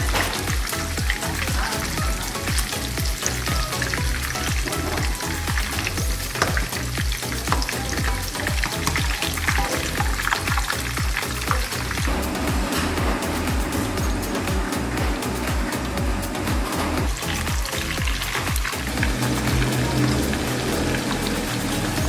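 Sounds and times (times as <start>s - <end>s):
background music with thudding beat: 0.0s - 22.0s
meatballs sizzling in hot oil: 0.0s - 22.0s.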